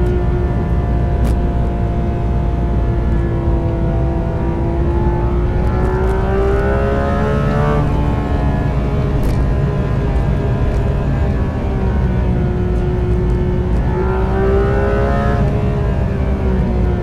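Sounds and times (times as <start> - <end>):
sports car engine at high revs: 0.0 - 17.0.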